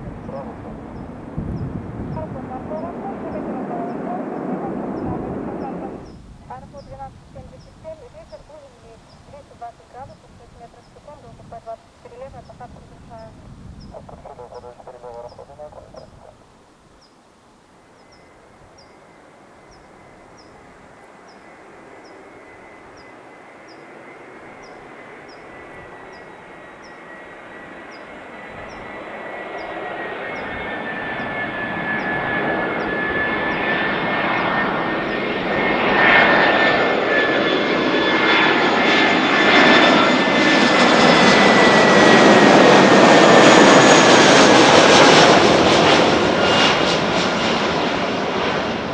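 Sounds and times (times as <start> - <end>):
jet airliner engine whine: 0.0 - 16.8, 17.7 - 48.9.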